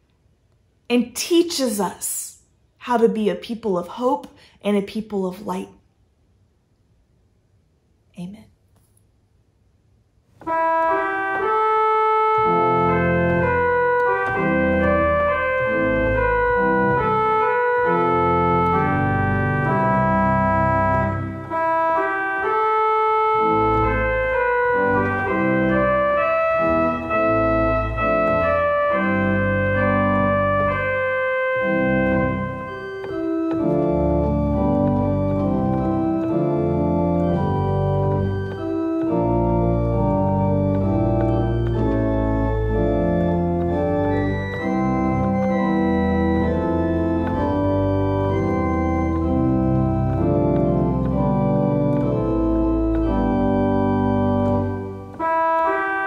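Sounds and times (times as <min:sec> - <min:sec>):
organ chords: 0:10.3 - 0:56.0.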